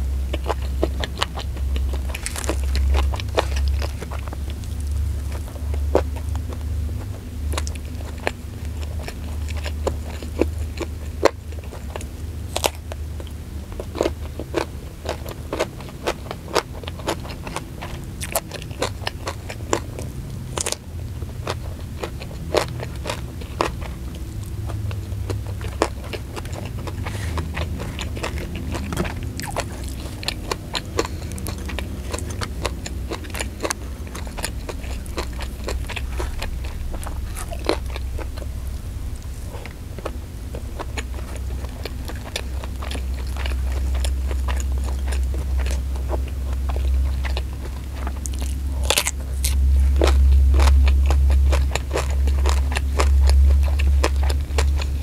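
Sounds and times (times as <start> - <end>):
crunching and chewing: 0.0 - 55.0
steady low hum: 0.0 - 55.0.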